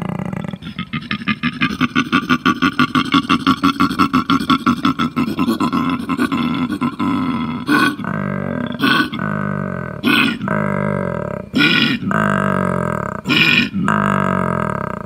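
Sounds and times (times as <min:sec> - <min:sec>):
koala bellowing: 0:00.0 - 0:15.0.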